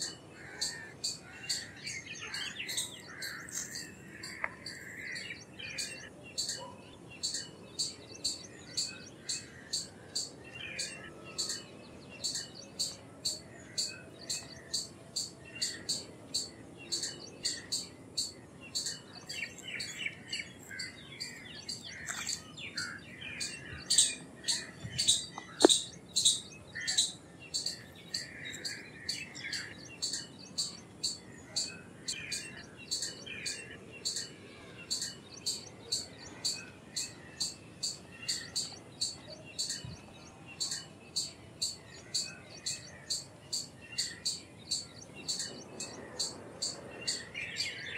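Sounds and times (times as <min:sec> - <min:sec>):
squirrel chirping: 0:00.0 - 0:11.6, 0:12.2 - 0:34.2, 0:34.9 - 0:39.9, 0:40.6 - 0:47.3.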